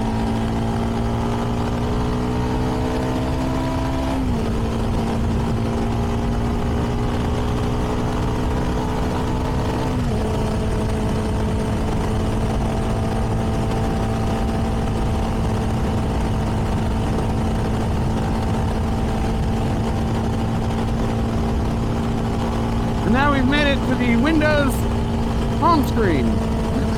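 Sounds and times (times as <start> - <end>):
motorcycle engine cruising: 0.0 - 26.9
wind and road noise: 0.0 - 26.9.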